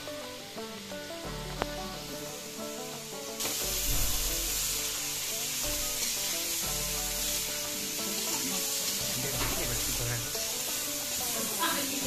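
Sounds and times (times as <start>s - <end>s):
background music: 0.0s - 12.0s
food sizzling in a wok: 0.0s - 12.0s.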